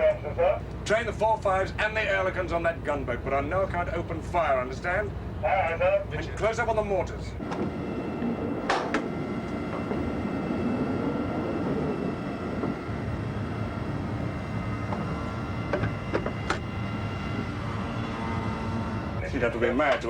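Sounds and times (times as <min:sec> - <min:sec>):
ship engines and machinery: 0:00.0 - 0:20.0
whining tones: 0:03.3 - 0:20.0.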